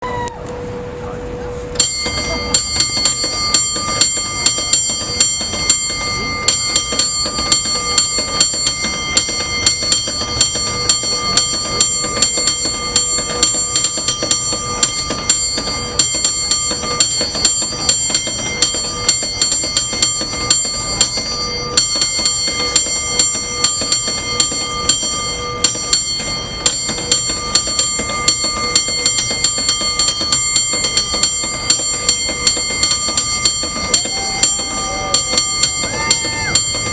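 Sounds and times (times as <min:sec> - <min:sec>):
cable car bell clanging: 0:01.4 - 0:36.9.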